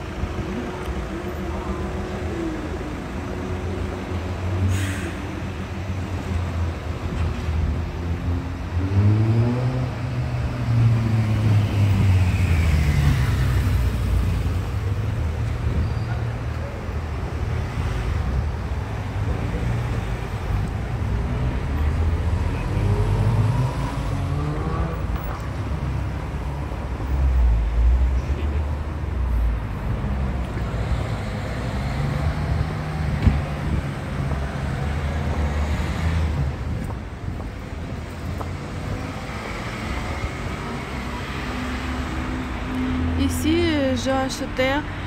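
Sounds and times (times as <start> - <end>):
cars driving by: 0.0 - 45.0.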